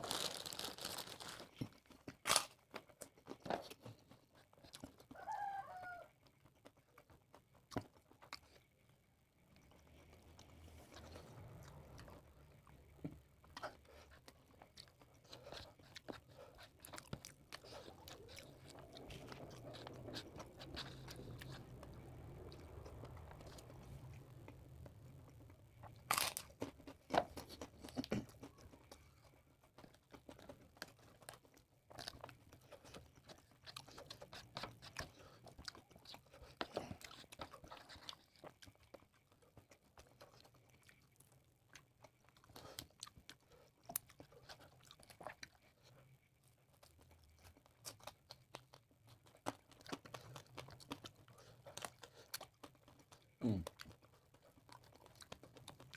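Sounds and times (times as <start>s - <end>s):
person chewing and crunching food: 0.0s - 55.9s.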